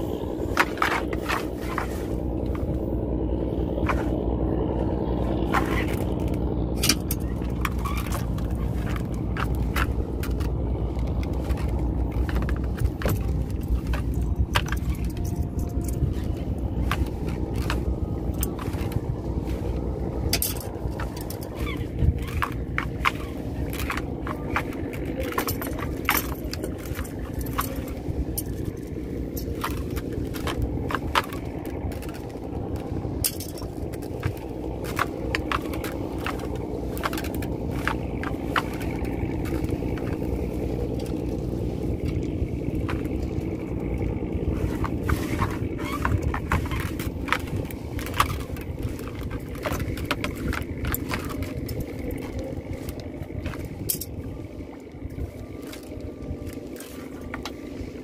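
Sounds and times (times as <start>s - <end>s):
boat engine running: 0.0s - 58.0s
clicks knocks and scrapes: 0.5s - 2.9s, 5.3s - 54.3s.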